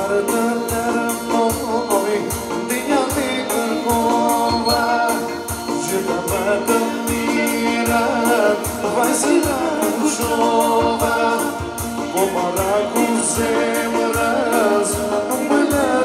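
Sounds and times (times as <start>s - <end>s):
electronic keyboard: 0.0s - 16.0s
man singing: 0.0s - 16.0s
steady drum beat: 0.0s - 16.0s.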